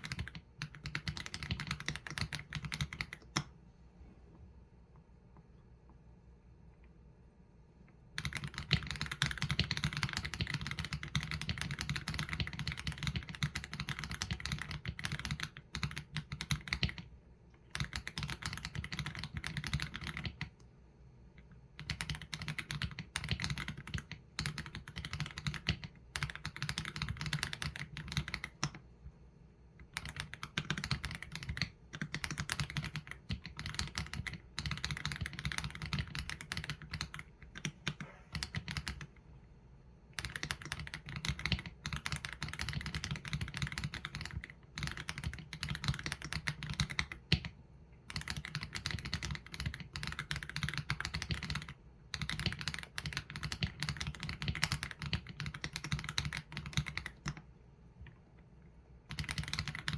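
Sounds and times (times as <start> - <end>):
mechanical keyboard typing: 0.0 - 3.5, 8.1 - 20.6, 21.4 - 28.8, 29.8 - 39.1, 40.2 - 58.1, 59.1 - 59.9.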